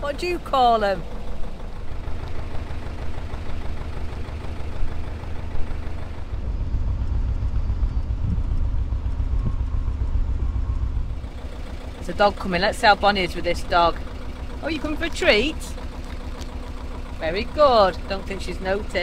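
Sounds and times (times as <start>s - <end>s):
boat diesel engine rumbling: 0.0s - 19.0s.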